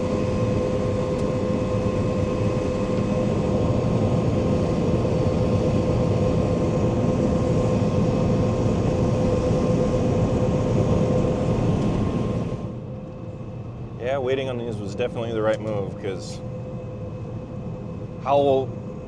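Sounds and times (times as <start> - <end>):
constant whine: 0.0 - 19.0
diesel engine running under load: 0.0 - 19.0.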